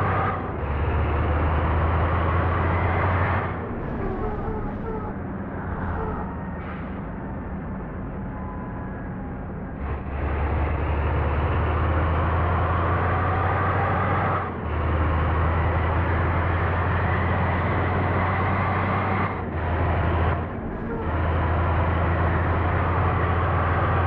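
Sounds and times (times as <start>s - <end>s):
bus diesel engine drone: 0.0s - 24.0s.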